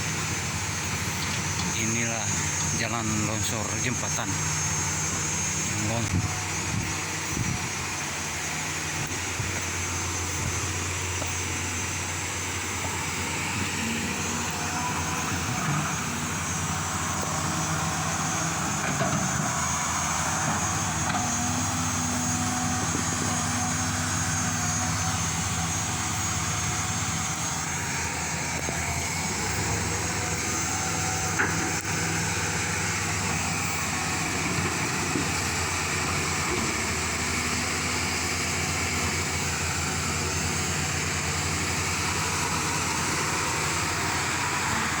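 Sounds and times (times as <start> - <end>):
engine droning: 0.0 - 45.0.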